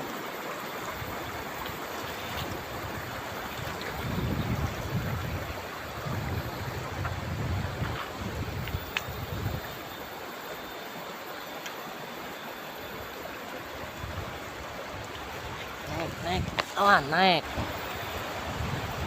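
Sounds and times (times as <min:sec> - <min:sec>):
river flowing: 0:00.0 - 0:19.0.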